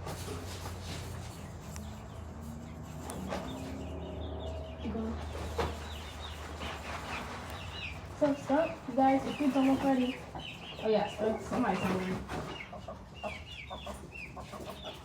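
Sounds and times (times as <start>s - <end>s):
young chickens clucking: 0.0s - 15.0s.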